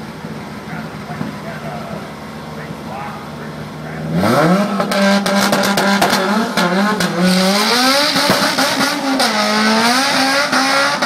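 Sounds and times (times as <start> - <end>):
car engine accelerating hard: 0.0 - 11.0
engine crackles and pops: 0.0 - 11.0.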